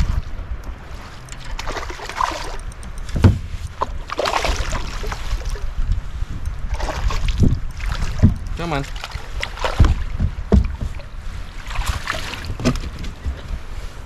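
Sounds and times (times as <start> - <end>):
waves lapping at hull: 0.0 - 14.0
wind buffeting microphone: 0.0 - 14.0.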